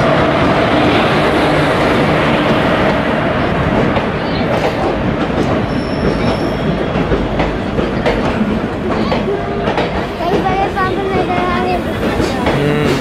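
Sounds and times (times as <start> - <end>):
train coaches rumbling past: 0.0 - 13.0
wheels clattering over rails: 1.7 - 13.0.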